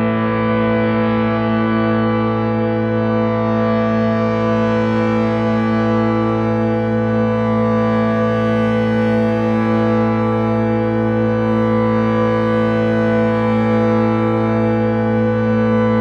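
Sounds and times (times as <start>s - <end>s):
meditation drone music: 0.0s - 16.0s.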